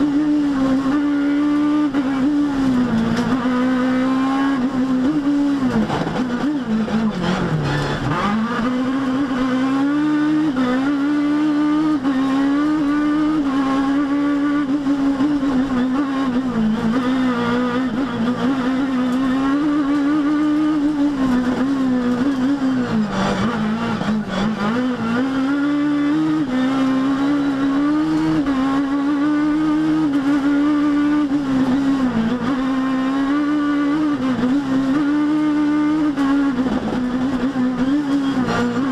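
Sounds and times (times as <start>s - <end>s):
car engine at high revs: 0.0s - 38.9s.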